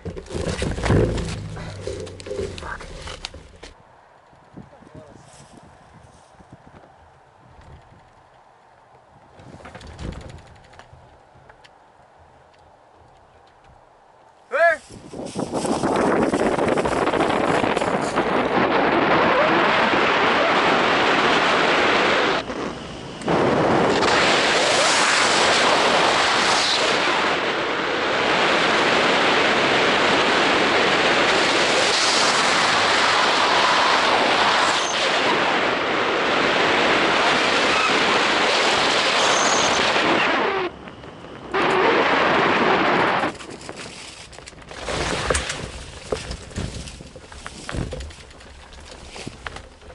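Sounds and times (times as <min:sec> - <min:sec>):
wind rushing over microphone: 0:00.0 - 0:14.2, 0:14.8 - 0:49.9.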